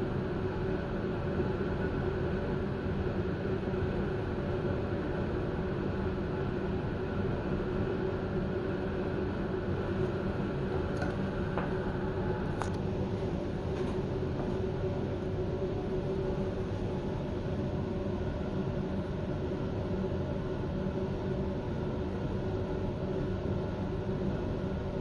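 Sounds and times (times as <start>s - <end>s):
train ventilation hum: 0.0s - 25.0s.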